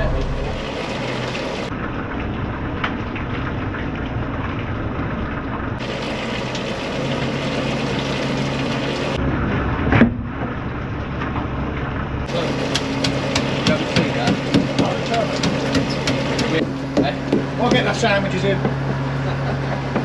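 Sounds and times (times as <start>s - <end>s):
water splashing and trickling: 0.0s - 19.1s
boat engine running: 0.0s - 20.0s.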